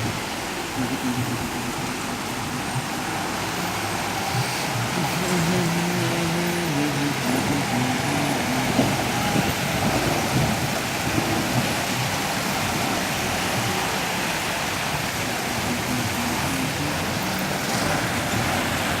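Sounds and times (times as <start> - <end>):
vehicle driving through floodwater: 0.0 - 19.0.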